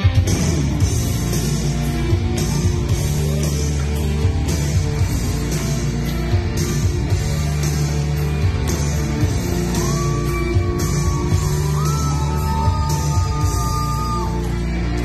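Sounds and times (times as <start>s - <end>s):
loud rock song over speakers: 0.0s - 15.0s.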